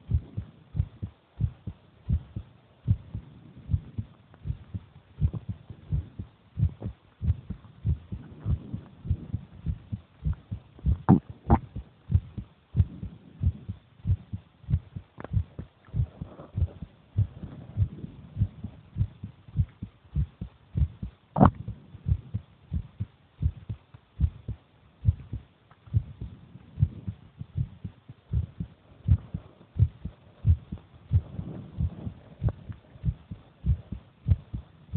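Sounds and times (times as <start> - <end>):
heartbeat thumps: 0.0 - 34.9.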